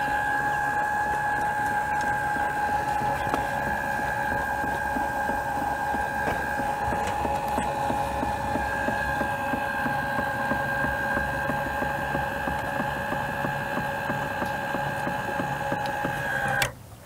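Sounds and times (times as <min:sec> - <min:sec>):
actuator motor whining: 0:00.0 - 0:16.8.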